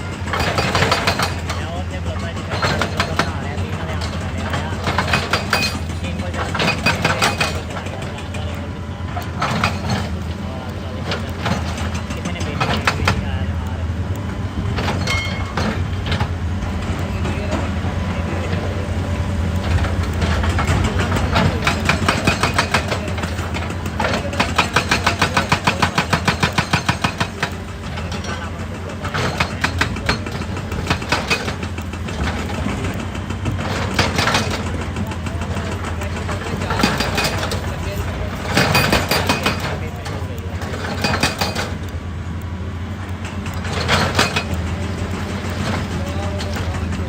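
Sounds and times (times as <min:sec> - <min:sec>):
hydraulic breaker hammering rock: 0:00.0 - 0:42.0, 0:43.0 - 0:47.0
excavator diesel engine running: 0:00.0 - 0:47.0.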